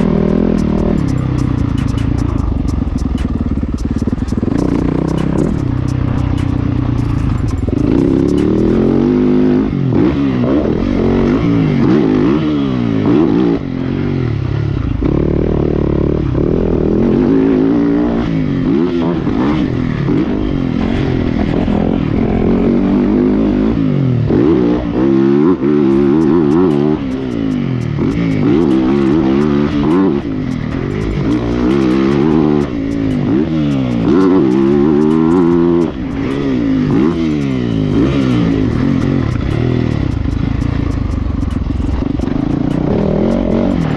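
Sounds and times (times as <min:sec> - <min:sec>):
motocross bike engine revving: 0:00.0 - 0:43.9.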